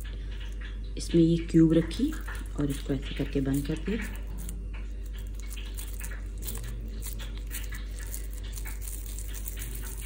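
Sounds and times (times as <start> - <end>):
soft squishing of mashed potato: 1.6 - 10.0.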